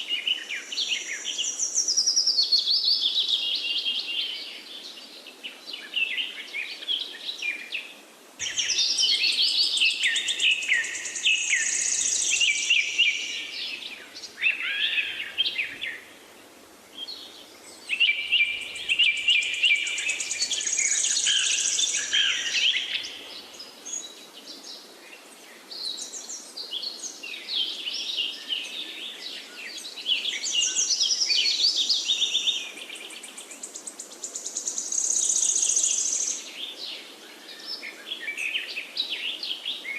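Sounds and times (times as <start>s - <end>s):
faint steady background hiss: 0.0s - 39.9s
songbirds singing: 0.0s - 39.9s.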